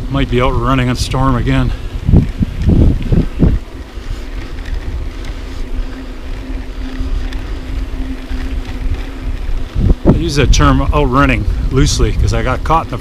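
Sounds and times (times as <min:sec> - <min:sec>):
wind buffeting microphone: 0:00.0 - 0:13.0
faint steady hum: 0:00.6 - 0:13.0.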